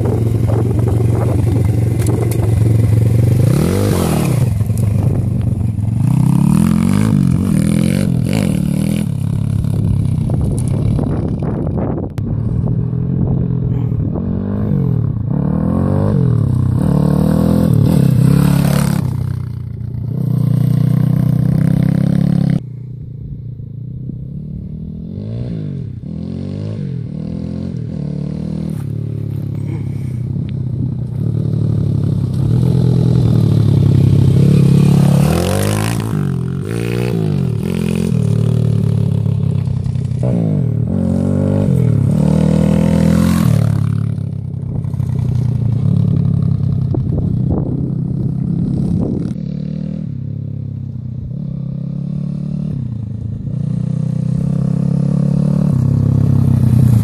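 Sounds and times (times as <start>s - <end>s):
motorbike engine revving: 0.0s - 22.6s, 24.3s - 50.6s.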